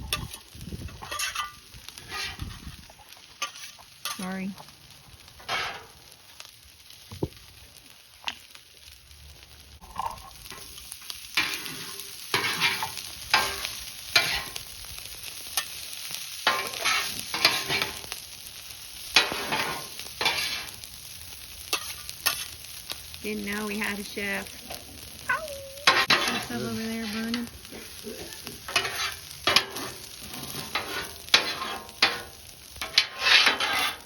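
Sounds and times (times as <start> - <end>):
spatula scraping grill: 0.0 - 6.9, 9.8 - 25.2, 25.8 - 34.0
food sizzling on grill: 0.0 - 34.0.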